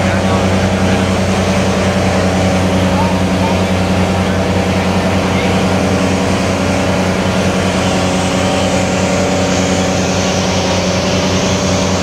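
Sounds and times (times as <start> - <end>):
diesel tractor engine under load: 0.0 - 12.0.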